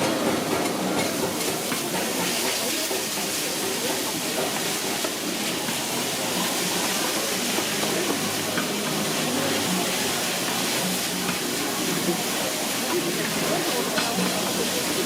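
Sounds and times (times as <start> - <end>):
faint murmur of voices: 0.0 - 15.0
food sizzling in a pan: 0.0 - 15.0.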